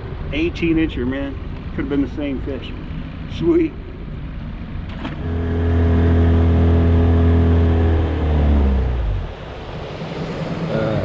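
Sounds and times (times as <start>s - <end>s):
boat motor humming: 0.0s - 11.0s
low engine noise: 0.0s - 11.0s.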